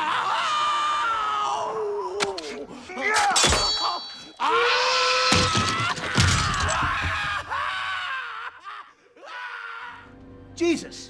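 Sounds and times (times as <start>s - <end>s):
people screaming and yelling: 0.0s - 10.0s.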